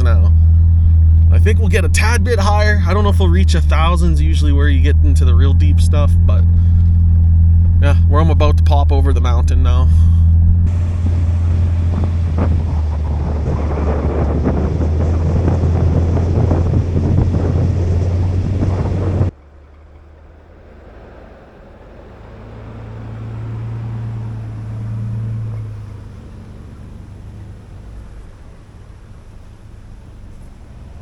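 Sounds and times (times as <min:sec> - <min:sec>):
road and wind noise: 0:00.0 - 0:31.0
truck engine hum: 0:00.0 - 0:31.0.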